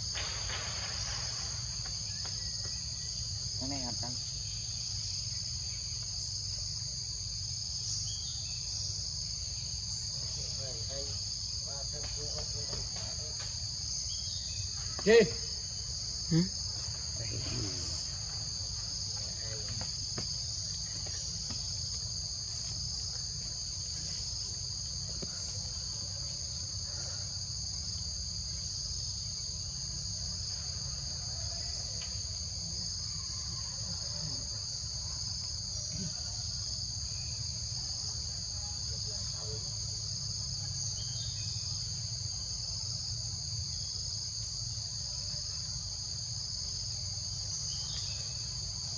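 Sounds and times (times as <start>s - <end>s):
high-pitched insect chorus: 0.0s - 48.9s.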